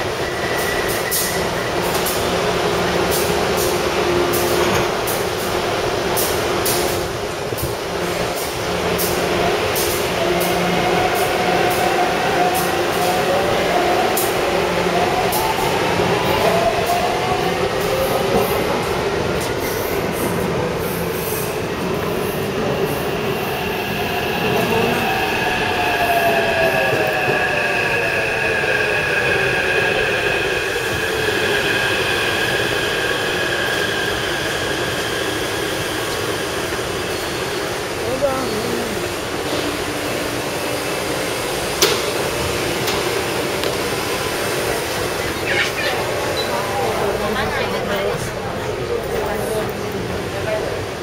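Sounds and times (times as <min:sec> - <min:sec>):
train running noise: 0:00.0 - 0:51.0.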